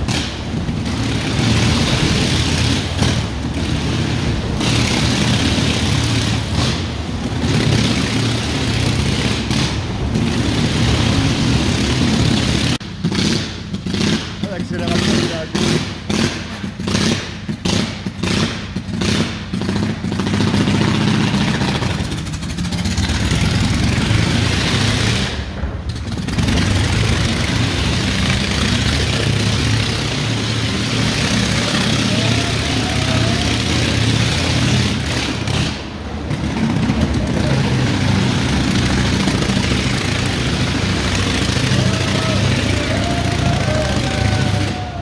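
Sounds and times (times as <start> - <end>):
motorcycle engine running hard: 0.0 - 45.0.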